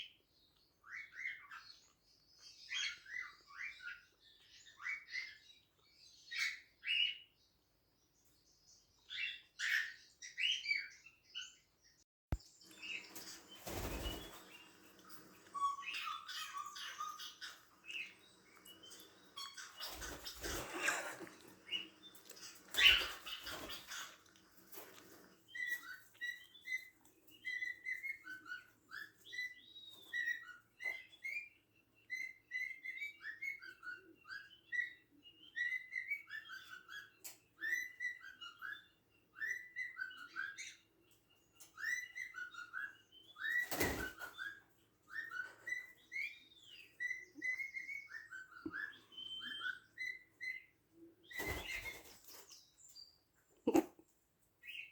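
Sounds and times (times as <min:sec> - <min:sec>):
cockatiels chirping and whistling: 0:00.8 - 0:05.5, 0:12.9 - 0:52.6.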